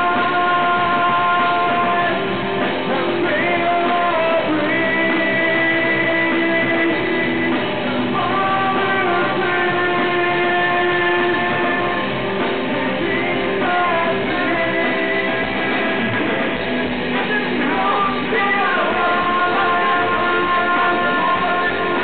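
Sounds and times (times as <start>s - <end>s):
drum beat: 0.0s - 22.0s
electric guitars: 0.0s - 22.0s.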